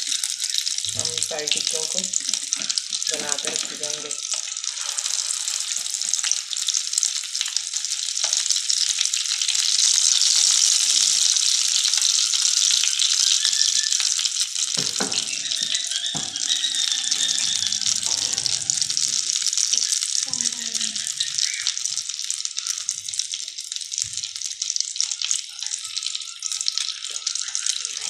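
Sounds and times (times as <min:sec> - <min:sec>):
patties sizzling in hot oil: 0:00.0 - 0:28.0.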